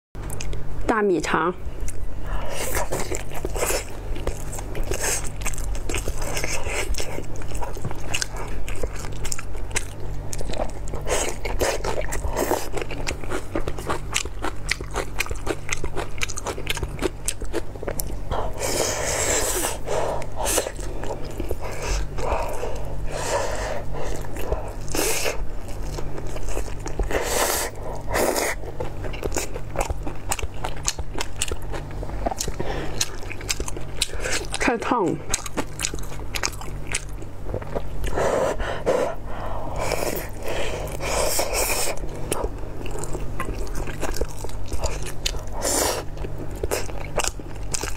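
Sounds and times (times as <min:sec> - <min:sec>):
close biting and chewing: 0:01.8 - 0:47.9.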